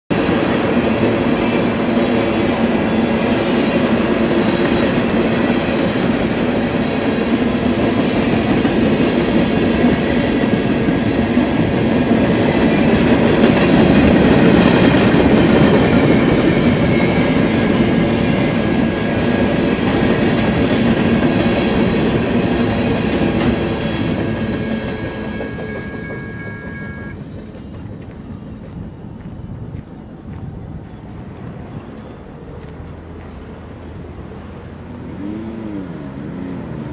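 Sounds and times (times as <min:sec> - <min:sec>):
train wheels rumbling on rails: 0:00.1 - 0:36.9.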